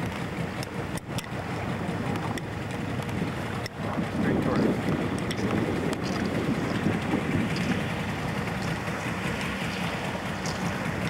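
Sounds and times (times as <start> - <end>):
boat engine rumbling: 0.0 - 11.0
wind buffeting microphone: 0.0 - 11.0.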